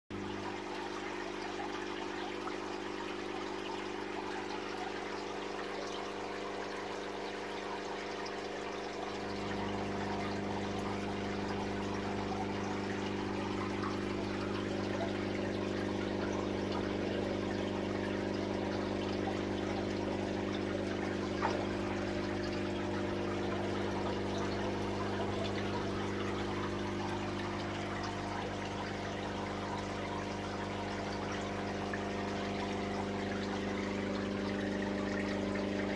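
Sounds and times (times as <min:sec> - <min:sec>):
aquarium pump hum: 0:00.1 - 0:35.9
water trickling and splashing: 0:00.1 - 0:35.9.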